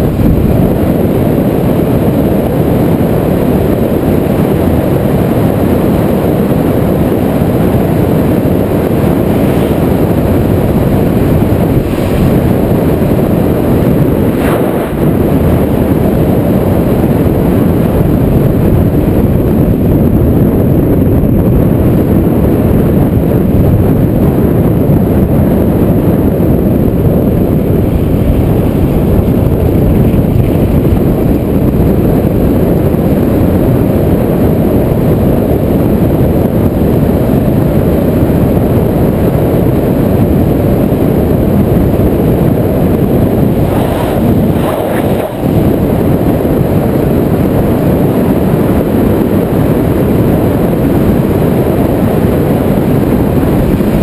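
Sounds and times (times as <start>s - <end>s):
wind buffeting camera microphone: 0.0s - 54.0s.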